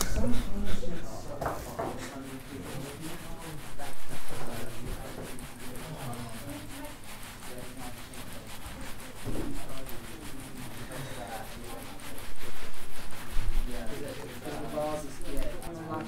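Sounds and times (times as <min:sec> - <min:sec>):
rubbing or scraping strokes: 0:00.0 - 0:16.0.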